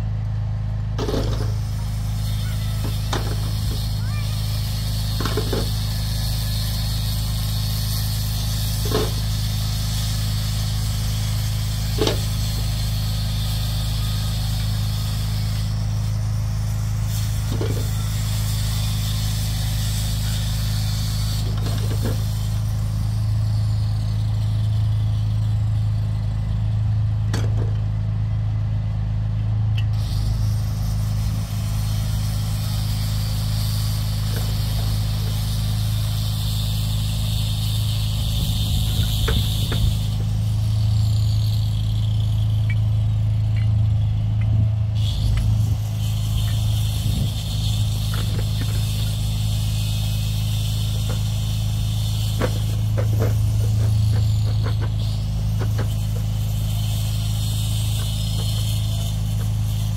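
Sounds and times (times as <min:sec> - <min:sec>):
motor humming: 0:00.0 - 0:59.9.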